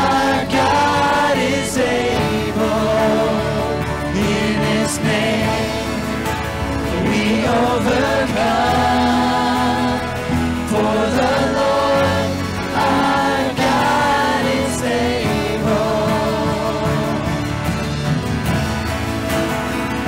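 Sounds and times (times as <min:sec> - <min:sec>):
voices singing together: 0:00.0 - 0:18.6
worship band playing: 0:00.0 - 0:20.0.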